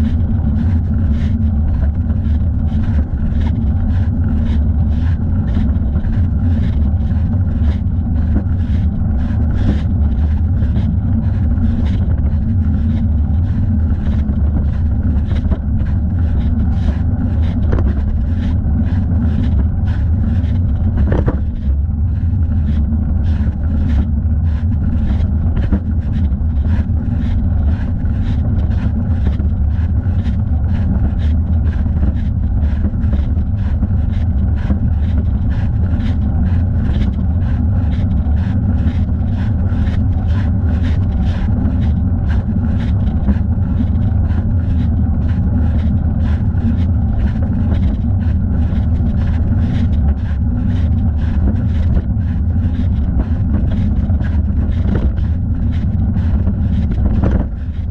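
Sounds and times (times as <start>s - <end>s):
wind rumble on microphone: 0.0s - 57.9s.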